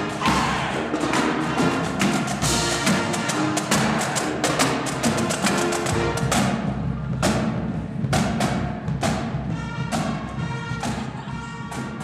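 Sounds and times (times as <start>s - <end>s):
goal celebration music: 0.0s - 12.0s.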